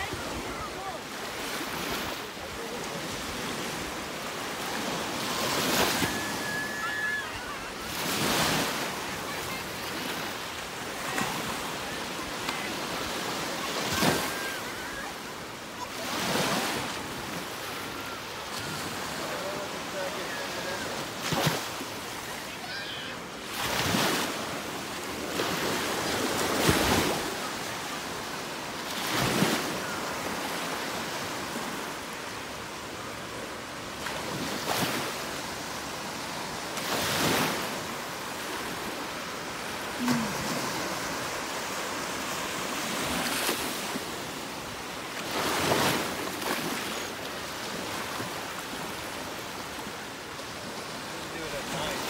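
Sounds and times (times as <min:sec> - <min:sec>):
small waves washing in shallows: 0:00.0 - 0:52.0.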